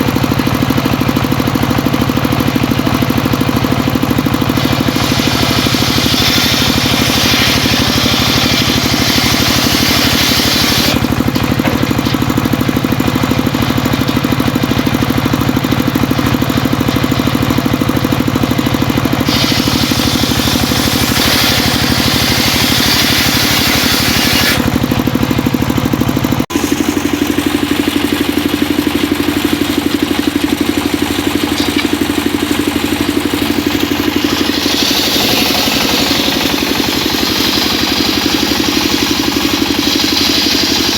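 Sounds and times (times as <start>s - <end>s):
engine hum: 0.0s - 40.9s
saw blade whining through wood: 2.9s - 15.1s, 18.7s - 25.7s, 26.4s - 40.9s.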